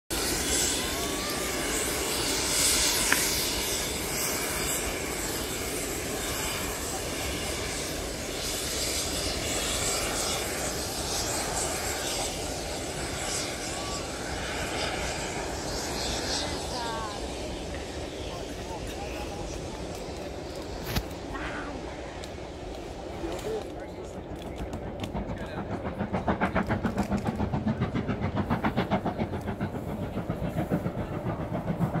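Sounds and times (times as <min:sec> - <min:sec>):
steam train rumbling: 0:00.1 - 0:32.0.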